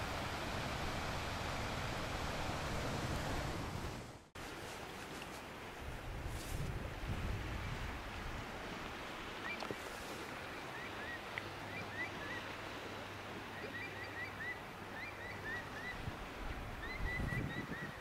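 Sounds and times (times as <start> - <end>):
sea surf: 0.0 - 18.0
wind: 0.0 - 18.0.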